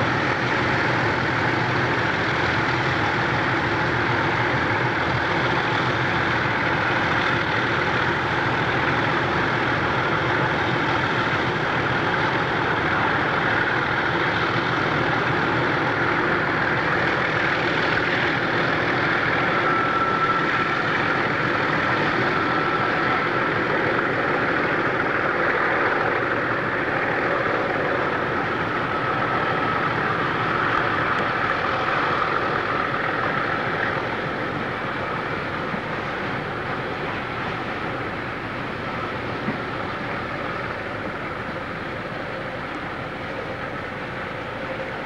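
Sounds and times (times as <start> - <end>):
heavy locomotive engine drone: 0.0 - 45.0.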